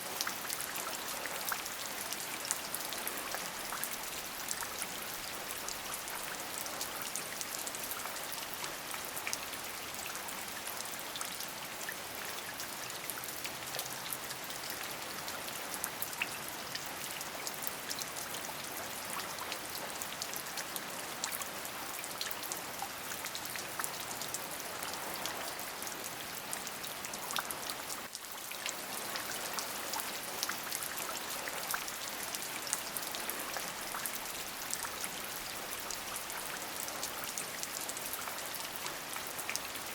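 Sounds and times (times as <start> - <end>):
steady rain with drop strikes: 0.0 - 39.9.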